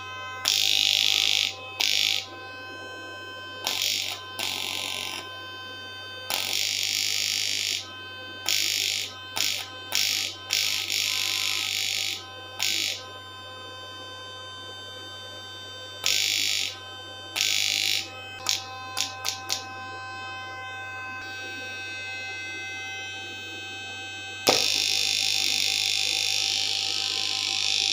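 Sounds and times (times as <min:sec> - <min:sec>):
high-pitched electric buzz: 0:00.0 - 0:27.9
steady low hum: 0:00.0 - 0:27.9.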